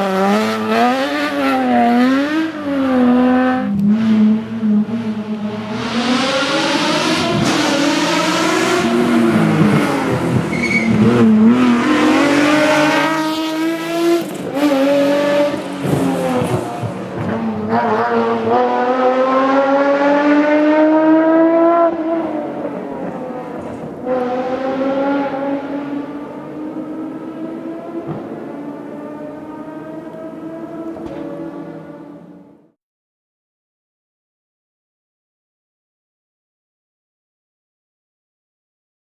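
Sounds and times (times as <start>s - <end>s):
car engine accelerating hard: 0.0s - 32.4s.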